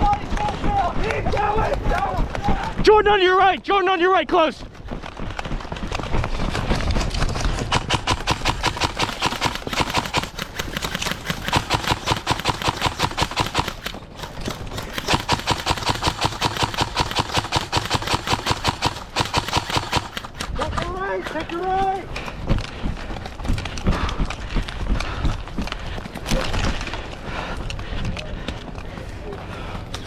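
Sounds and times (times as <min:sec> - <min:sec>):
running footsteps: 0:00.0 - 0:30.0.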